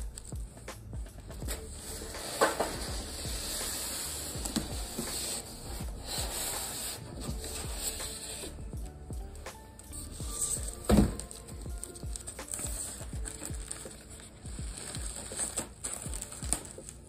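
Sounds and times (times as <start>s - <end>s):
cardboard and styrofoam scraping: 1.5s - 8.6s, 10.0s - 17.0s.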